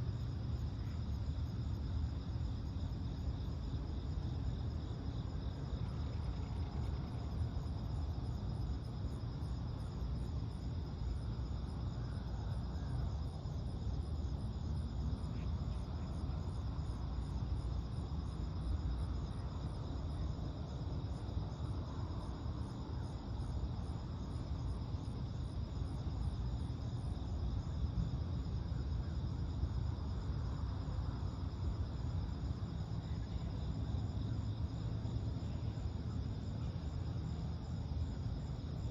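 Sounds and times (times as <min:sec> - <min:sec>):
constant low rumble: 0:00.0 - 0:38.9
insects chirping in fast pulse: 0:00.0 - 0:38.9
steady high insect trill: 0:00.0 - 0:38.9.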